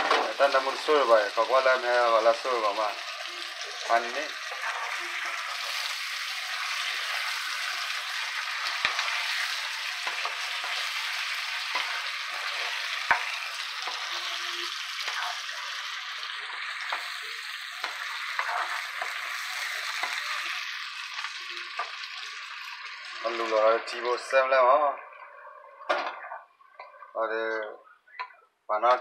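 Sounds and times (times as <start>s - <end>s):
fish sizzling in hot oil: 0.0s - 27.4s.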